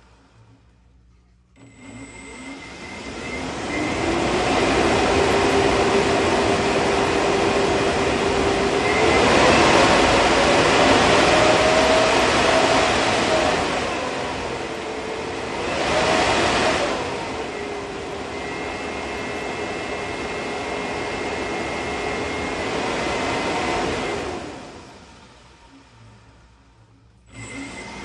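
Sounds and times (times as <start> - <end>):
electric ducted fan whooshing: 1.9 - 28.0.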